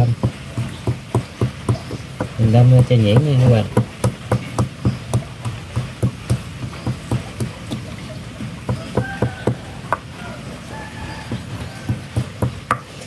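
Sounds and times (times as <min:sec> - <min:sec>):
wooden pestle pounding in ceramic bowl: 0:00.0 - 0:10.1, 0:11.1 - 0:13.0.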